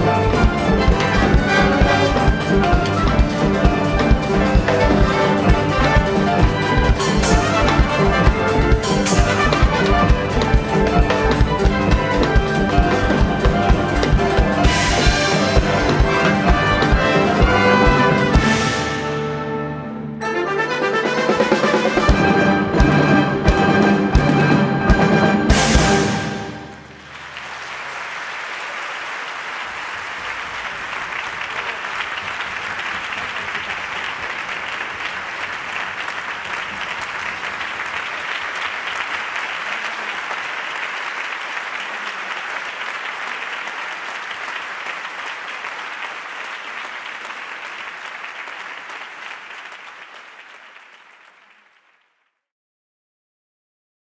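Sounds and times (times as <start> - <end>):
audience applauding: 0.0 - 18.9, 25.8 - 52.3.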